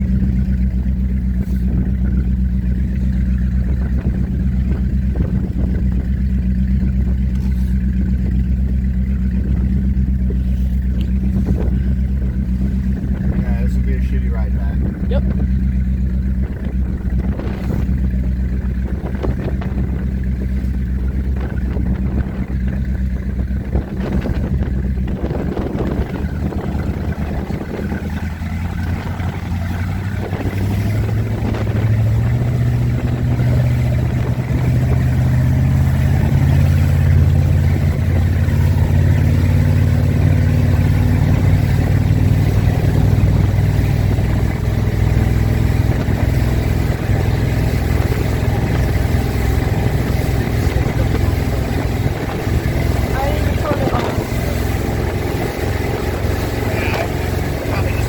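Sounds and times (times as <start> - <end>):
powerboat engine running: 0.0 - 58.0.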